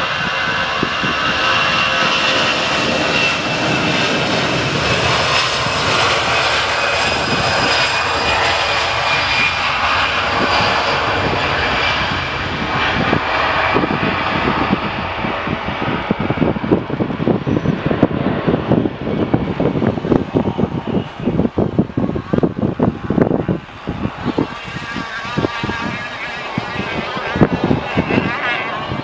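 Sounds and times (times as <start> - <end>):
jet engines roaring at takeoff: 0.0 - 29.0.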